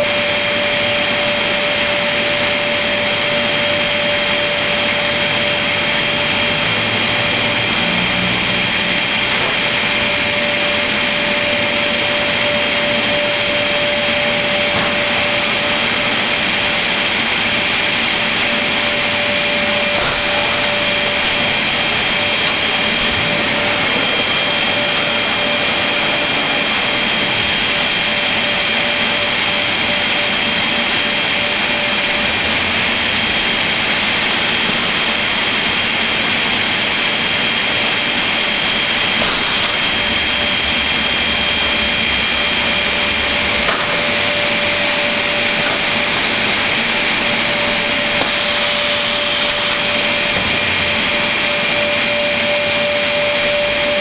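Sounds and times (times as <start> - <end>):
board cutting machine whirring: 0.0 - 54.0
high whine: 0.0 - 54.0.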